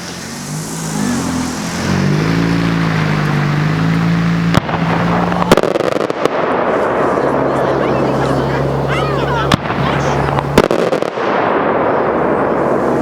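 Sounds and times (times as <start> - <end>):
firework bangs: 0.0 - 13.0
firework crackling: 0.0 - 13.0.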